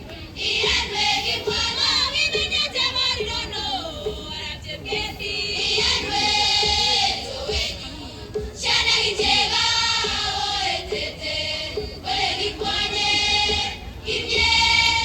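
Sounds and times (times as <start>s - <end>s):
choir singing long held notes: 0.4s - 15.0s.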